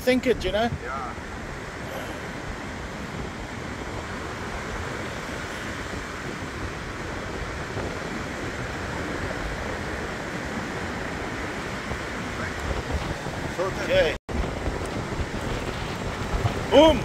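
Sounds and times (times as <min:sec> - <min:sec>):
ocean surf breaking: 0:00.0 - 0:17.0
wind rumbling on microphone: 0:00.0 - 0:17.0.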